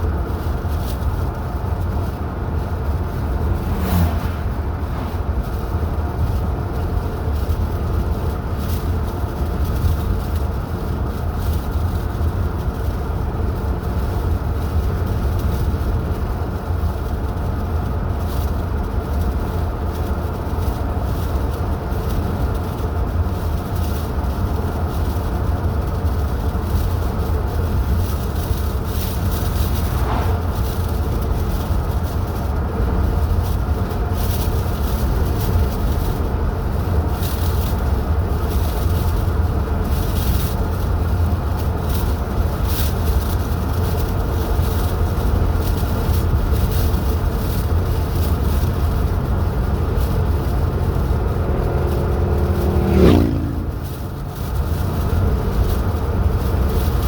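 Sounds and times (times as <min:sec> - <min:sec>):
car engine rumble: 0:00.0 - 0:57.0.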